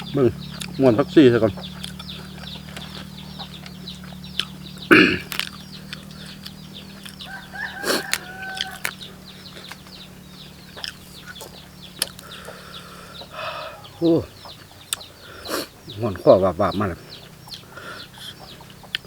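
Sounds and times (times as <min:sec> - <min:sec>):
chicks cheeping: 0:00.0 - 0:19.0
drawn-out chicken call: 0:00.0 - 0:19.0
steady low hum: 0:00.0 - 0:19.0.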